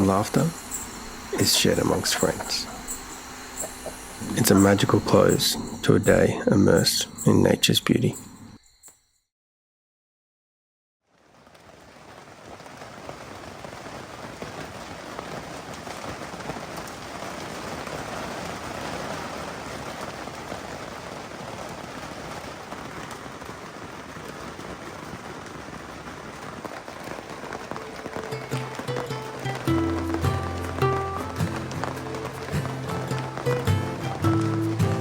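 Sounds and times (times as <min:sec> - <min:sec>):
raindrop ticks: 0:00.0 - 0:08.2, 0:11.5 - 0:35.0
steady rain falling: 0:00.0 - 0:08.2, 0:11.1 - 0:35.0.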